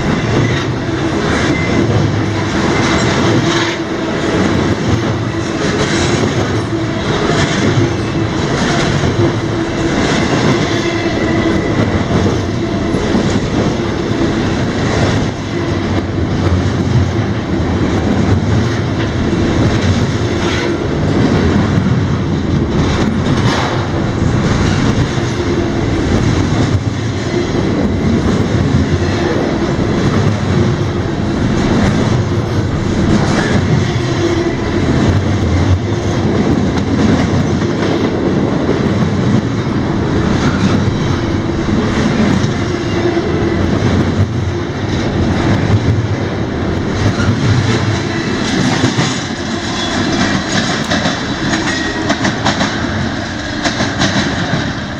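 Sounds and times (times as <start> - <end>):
steel wheels rumbling on rail: 0.0 - 54.9
train wheel clicks: 0.0 - 54.9.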